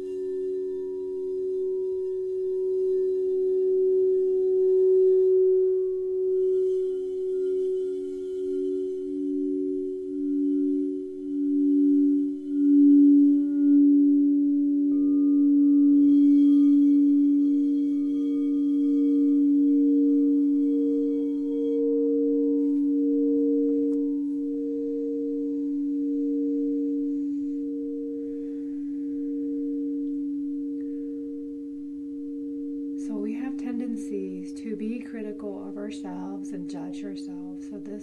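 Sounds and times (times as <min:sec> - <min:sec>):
singing bowl ringing: 0:00.0 - 0:37.9.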